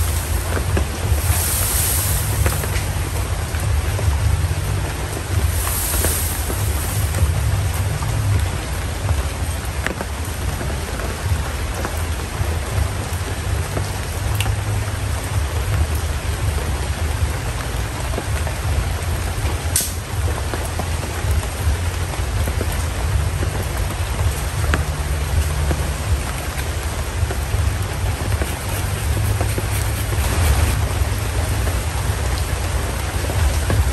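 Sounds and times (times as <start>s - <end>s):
deep rumble: 0.0s - 33.9s
steady rain falling: 0.0s - 33.9s.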